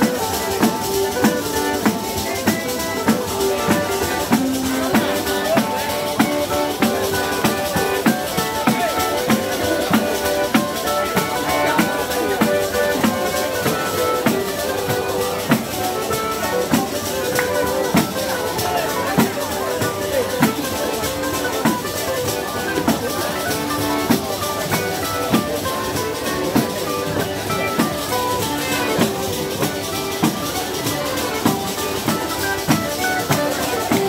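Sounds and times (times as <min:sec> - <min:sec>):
button accordion melody: 0:00.0 - 0:34.0
mandolin strumming: 0:00.0 - 0:34.0.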